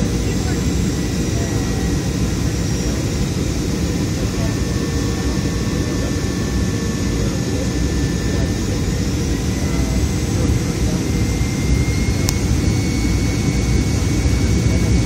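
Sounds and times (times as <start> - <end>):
jet cabin engine rumble: 0.0 - 15.0.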